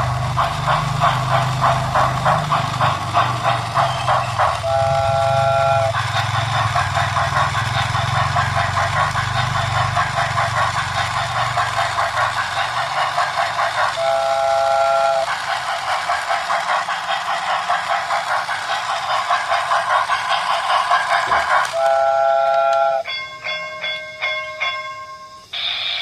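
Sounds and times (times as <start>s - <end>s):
steam locomotive chuffing: 0.0s - 26.0s.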